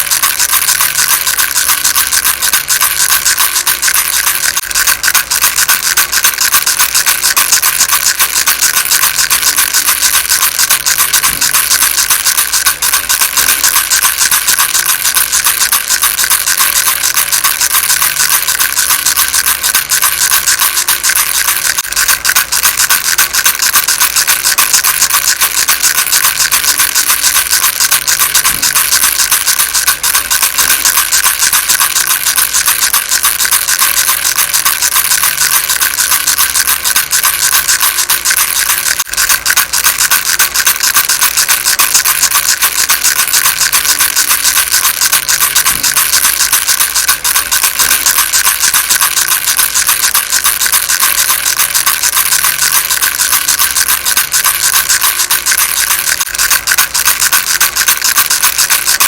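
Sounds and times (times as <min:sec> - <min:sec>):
baby rattle shaken rapidly: 0:00.0 - 0:59.0.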